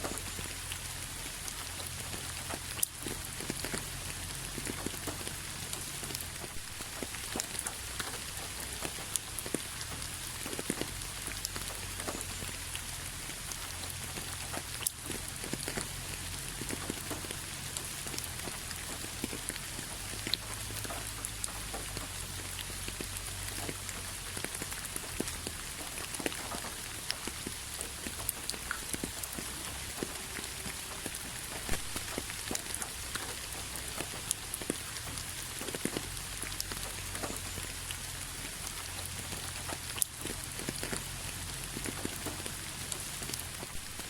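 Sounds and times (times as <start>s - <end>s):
raindrops tapping a surface: 0.0s - 44.0s
steady rain hiss: 0.0s - 44.0s.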